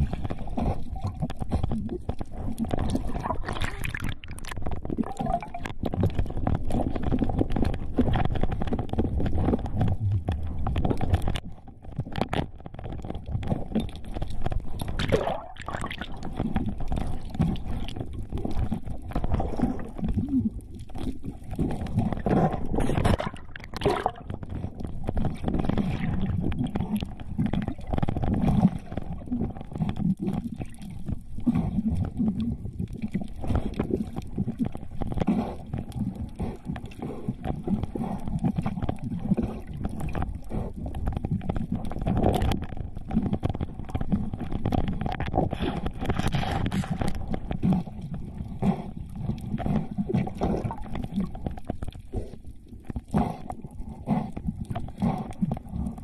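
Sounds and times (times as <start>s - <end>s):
underwater rushing and gurgling: 0.0s - 56.0s.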